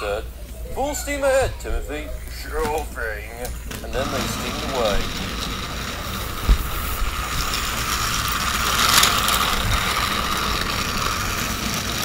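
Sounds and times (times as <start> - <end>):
toy train motor whirring: 0.9 - 12.0
toy train click: 2.2 - 12.0.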